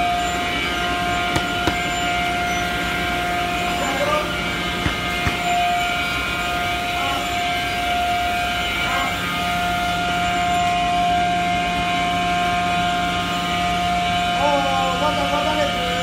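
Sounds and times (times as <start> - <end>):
high-pitched whine: 0.0 - 16.0
workshop machinery humming: 0.0 - 16.0.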